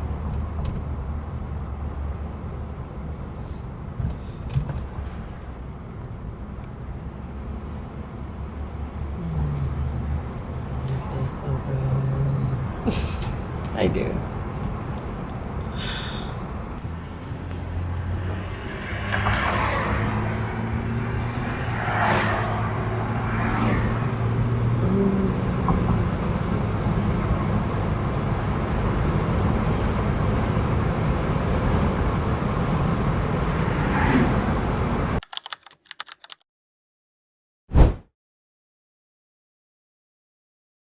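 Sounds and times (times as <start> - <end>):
vehicle engine and road noise: 0.0 - 36.4.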